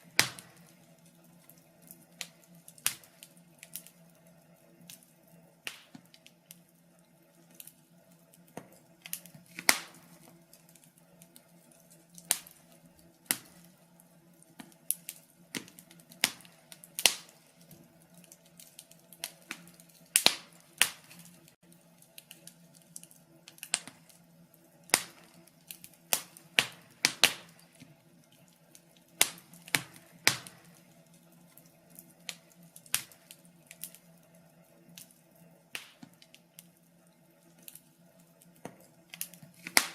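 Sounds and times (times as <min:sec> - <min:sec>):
faint steady low hum: 0:00.0 - 0:39.9
wood fire crackling: 0:00.0 - 0:39.9.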